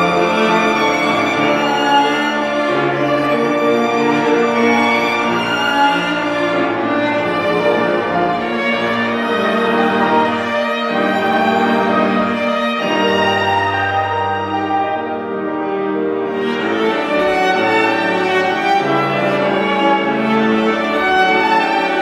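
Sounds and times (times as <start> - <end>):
cello sustained notes: 0.0 - 22.0
violin sustained notes: 0.0 - 22.0.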